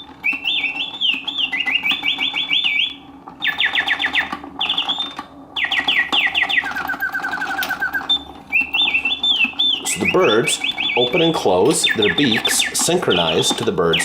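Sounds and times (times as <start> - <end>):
clockwork mechanism whirring: 0.0 - 14.0
mechanical bird whistling: 0.0 - 14.0.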